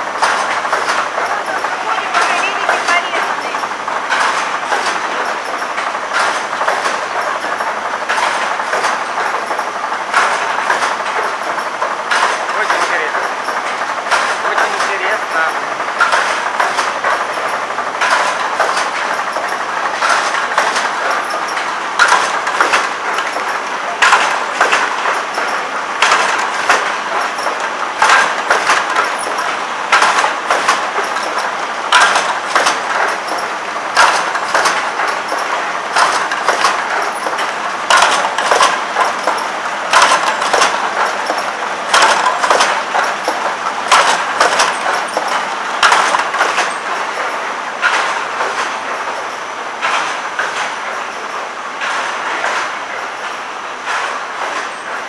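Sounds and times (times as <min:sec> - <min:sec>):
machine running: 0:00.0 - 0:55.0.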